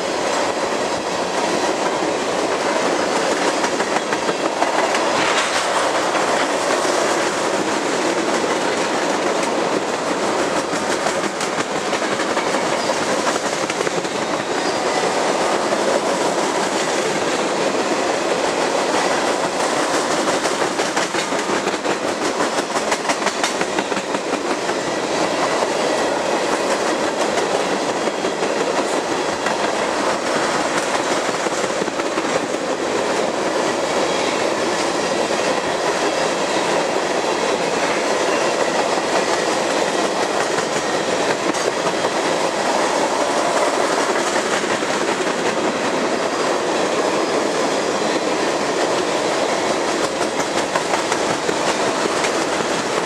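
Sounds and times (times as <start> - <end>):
freight train rolling past: 0.0 - 53.0
wheels clacking over rail joints: 1.4 - 46.4, 48.0 - 53.0.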